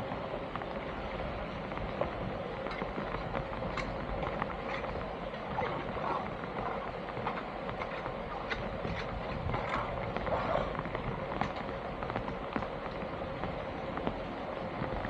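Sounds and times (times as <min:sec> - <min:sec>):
faint constant tone: 0:00.0 - 0:15.0
steady background hum: 0:00.0 - 0:15.0.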